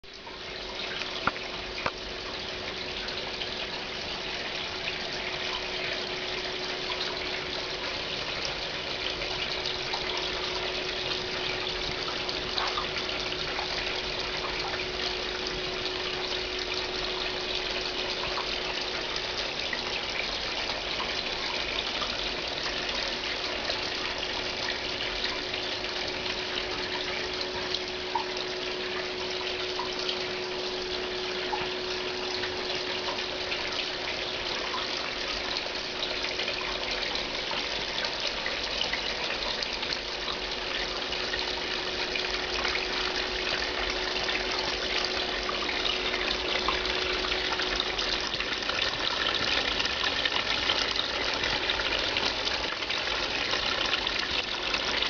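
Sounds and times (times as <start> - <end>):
faint constant hum: 0.0 - 55.0.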